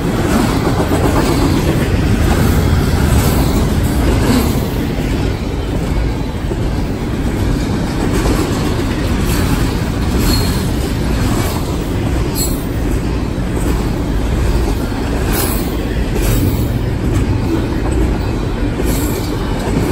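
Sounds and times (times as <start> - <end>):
clicks and clanks of rail cars: 0.0 - 19.9
train wheels rumbling on rail: 0.0 - 19.9.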